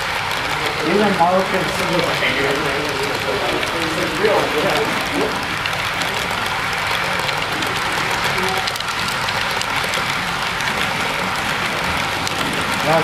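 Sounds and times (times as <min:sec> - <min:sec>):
model train wheels clattering: 0:00.0 - 0:13.0.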